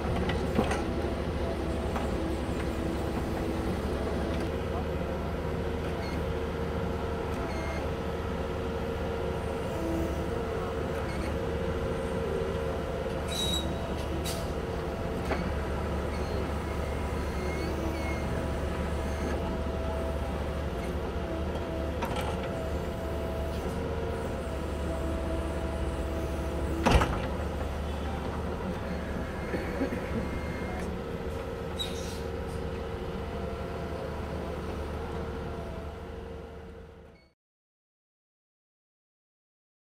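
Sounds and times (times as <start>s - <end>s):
excavator diesel engine running: 0.0s - 37.3s.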